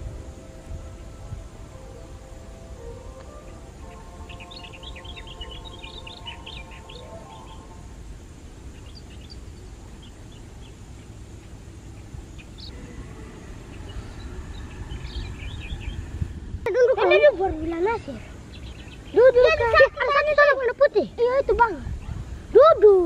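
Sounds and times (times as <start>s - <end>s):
steady low rumble: 0.0s - 22.6s
small birds chirping: 0.6s - 23.0s.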